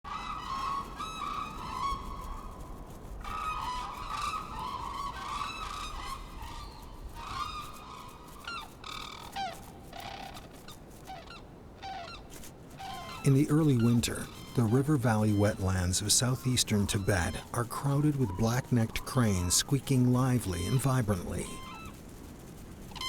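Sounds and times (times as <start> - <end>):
cranes calling: 0.1 - 23.0.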